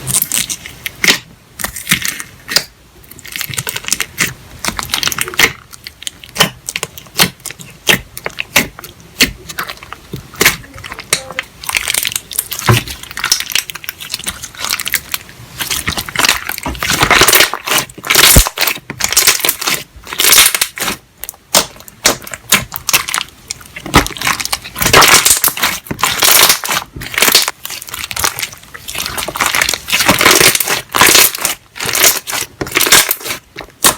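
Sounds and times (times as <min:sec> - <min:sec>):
slime squishing and crackling: 0:00.0 - 0:33.9.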